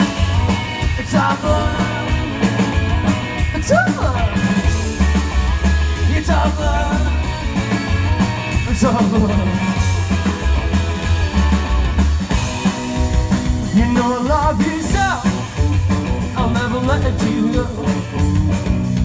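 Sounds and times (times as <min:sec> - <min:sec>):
electric guitar lead bending notes: 0:00.0 - 0:19.0
rockabilly band playing: 0:00.0 - 0:19.0.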